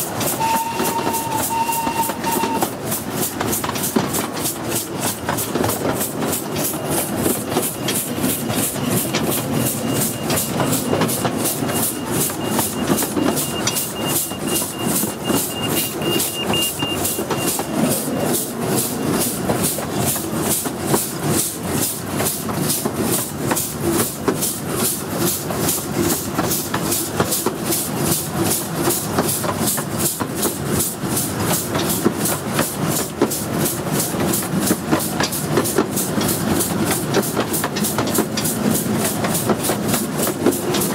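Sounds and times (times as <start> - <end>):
steam locomotive chuffing: 0.0 - 40.9.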